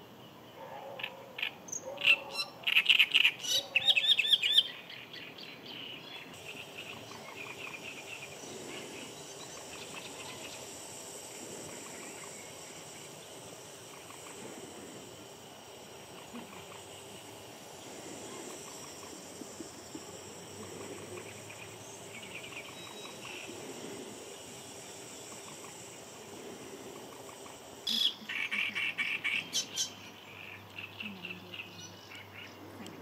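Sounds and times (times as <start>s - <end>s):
high-pitched insect buzz: 6.3s - 33.0s.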